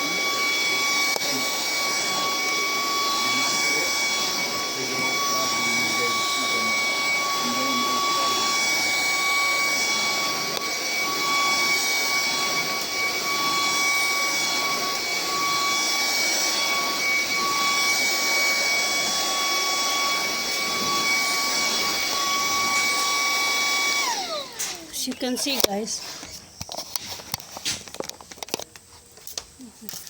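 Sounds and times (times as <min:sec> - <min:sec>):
vacuum cleaner motor running: 0:00.0 - 0:28.6.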